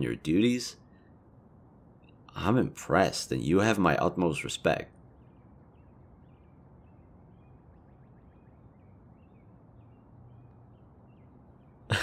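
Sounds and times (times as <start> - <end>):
faint birds chirping: 0.0 - 12.0
low steady hum: 0.0 - 12.0.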